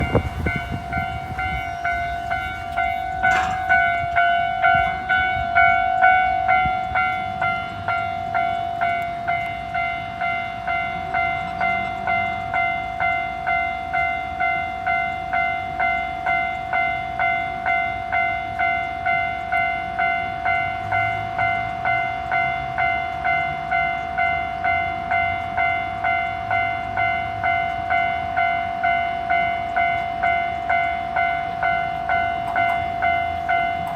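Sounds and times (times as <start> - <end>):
level crossing warning bell ringing: 0.0 - 33.9.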